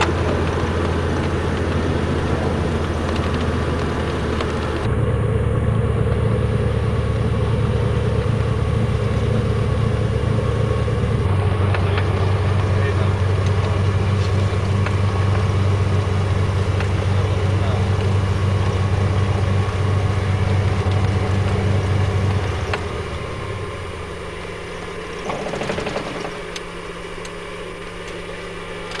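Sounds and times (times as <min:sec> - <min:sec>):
light aircraft engine drone: 0:00.0 - 0:29.0.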